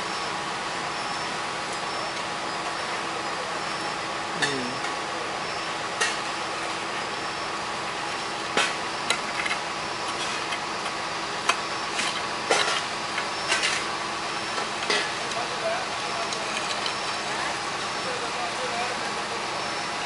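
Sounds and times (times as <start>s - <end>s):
construction background noise: 0.0s - 20.0s.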